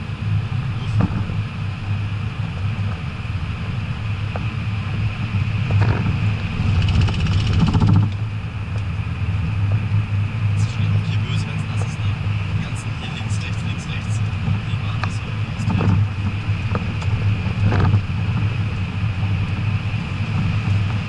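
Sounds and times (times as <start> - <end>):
diesel engine drone: 0.0 - 21.0
road and tyre noise: 0.0 - 21.0.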